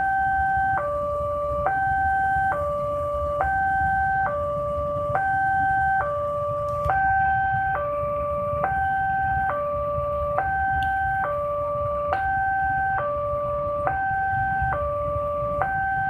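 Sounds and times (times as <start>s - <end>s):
low rumble of traffic: 0.0s - 16.0s
two-tone level crossing alarm: 0.0s - 16.0s.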